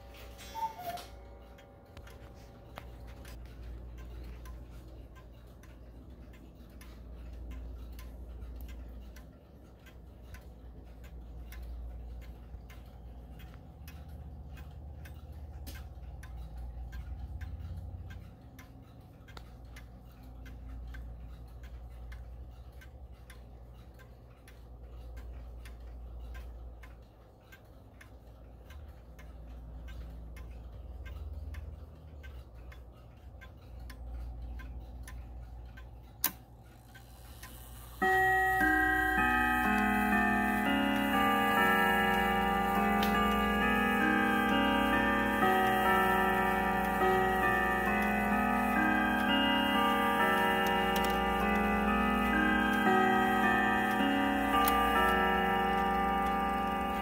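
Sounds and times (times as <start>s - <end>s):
wall clock ticking: 0.0s - 57.0s
sharp clock click: 0.6s - 57.0s.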